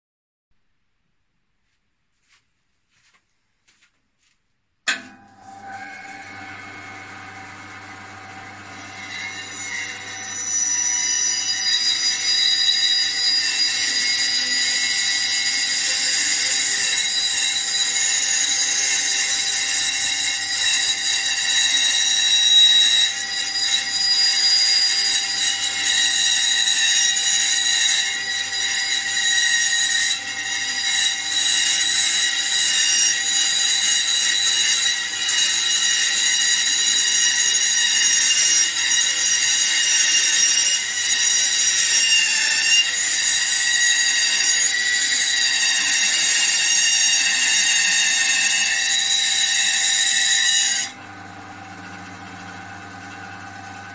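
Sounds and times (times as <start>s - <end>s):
bandsaw blade whining: 4.9s - 53.9s.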